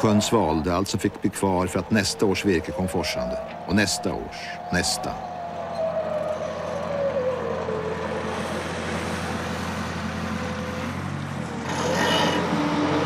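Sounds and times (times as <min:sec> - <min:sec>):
engine whine: 0:00.0 - 0:13.0.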